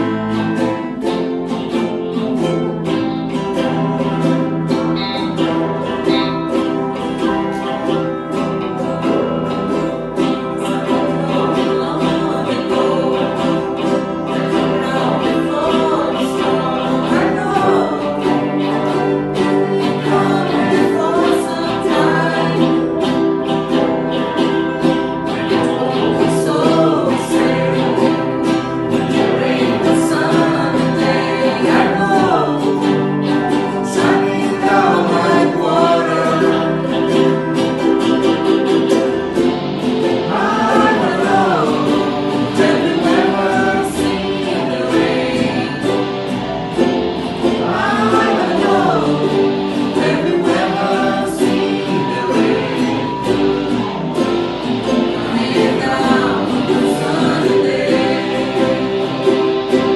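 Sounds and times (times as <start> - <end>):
people singing: 0.0 - 59.9
strummed acoustic strings: 0.0 - 59.9.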